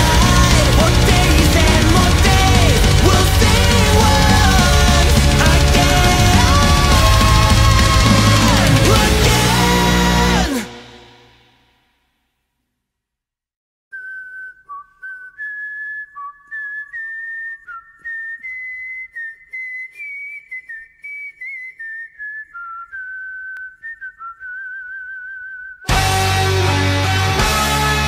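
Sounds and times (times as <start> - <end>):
whistled melody with vibrato: 0.0 - 10.9, 13.9 - 26.8.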